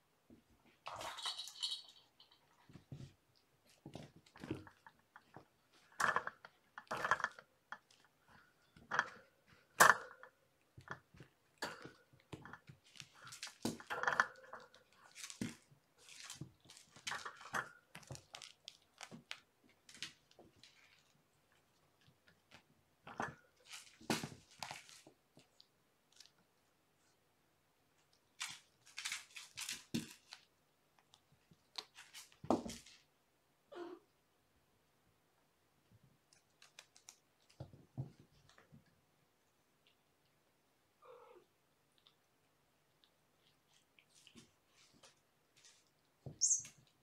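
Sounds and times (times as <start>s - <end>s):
cats playing on carpet: 2.4s - 9.8s, 10.6s - 33.3s, 35.5s - 47.0s.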